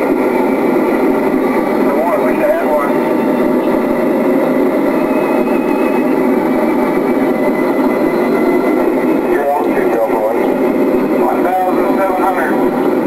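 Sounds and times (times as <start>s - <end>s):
propeller aircraft engine drone: 0.0s - 13.0s.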